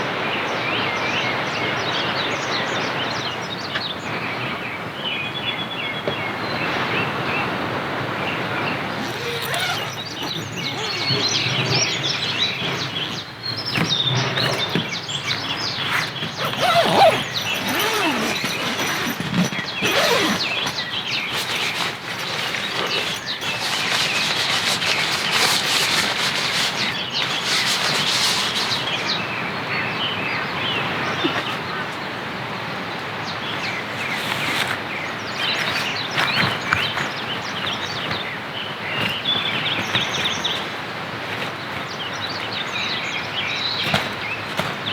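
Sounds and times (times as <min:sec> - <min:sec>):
outdoor background noise: 0:00.0 - 0:44.9
birds chirping: 0:08.2 - 0:44.9.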